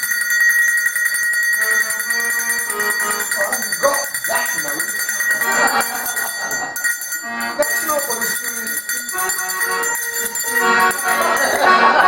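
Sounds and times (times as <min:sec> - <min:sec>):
tuned cowbells ringing: 0:00.0 - 0:12.0
accordion: 0:01.6 - 0:12.0.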